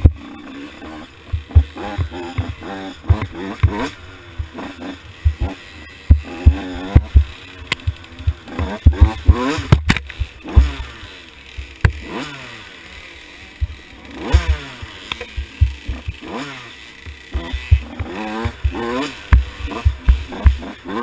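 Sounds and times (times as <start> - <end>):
two-stroke motorbike engine revving: 0.0 - 21.0.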